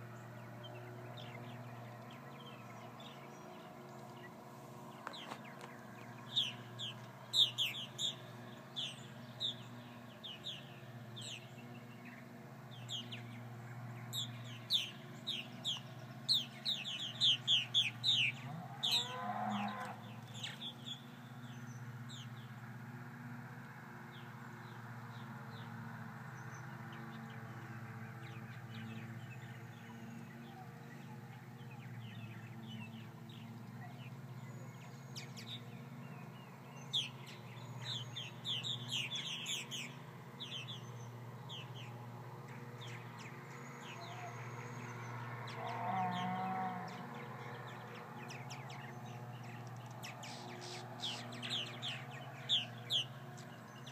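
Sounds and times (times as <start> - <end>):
low rising and falling bird call: 0.0 - 22.4, 24.7 - 53.9
birds chirping in flight: 0.0 - 22.6, 24.1 - 53.9.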